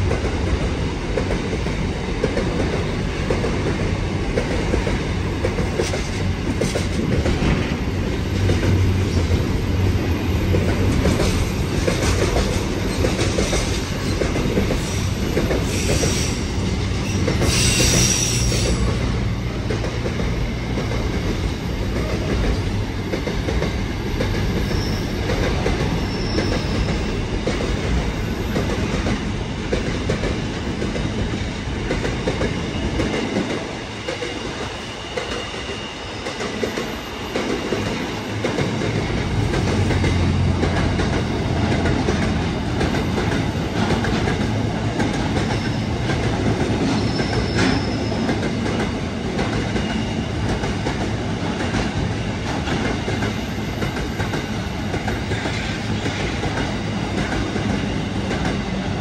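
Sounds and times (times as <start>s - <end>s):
train wagons rumbling on rails: 0.0s - 59.0s.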